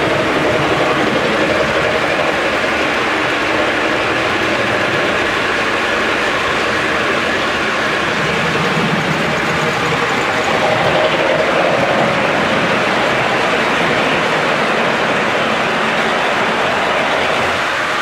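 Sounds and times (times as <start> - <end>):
model train wheels rolling on rails: 0.0 - 18.0.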